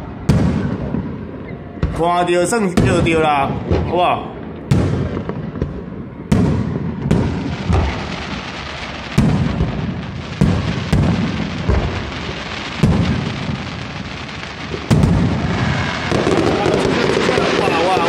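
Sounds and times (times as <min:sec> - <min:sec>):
firework booms: 0:00.0 - 0:18.0.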